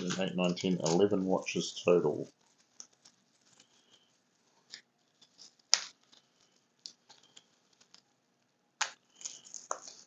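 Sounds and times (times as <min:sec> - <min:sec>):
rustling: 0:00.0 - 0:10.0.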